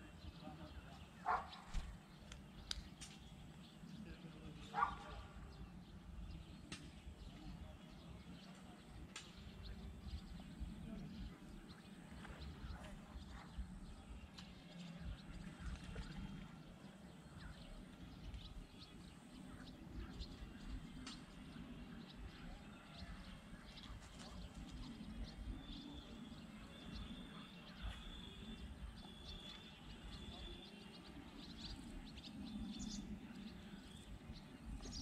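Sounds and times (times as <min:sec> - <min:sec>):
bird chirps: 0:00.1 - 0:35.0.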